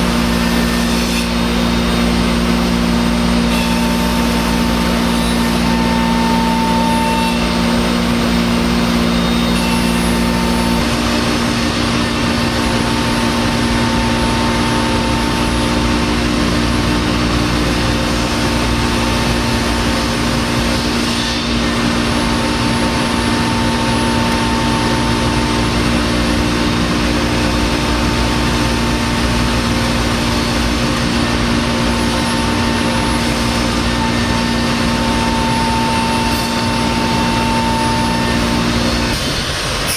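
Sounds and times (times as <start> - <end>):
end mill cutting wood: 0.0 - 39.9
router spindle whine: 0.0 - 39.9.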